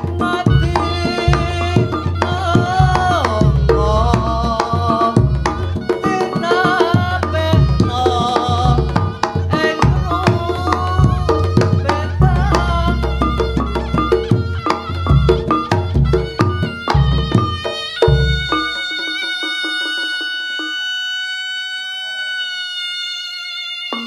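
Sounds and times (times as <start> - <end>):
rapid hand drum strokes: 0.0 - 20.8
percussion music over sound system: 0.0 - 21.1
wavering high melody: 0.0 - 21.1.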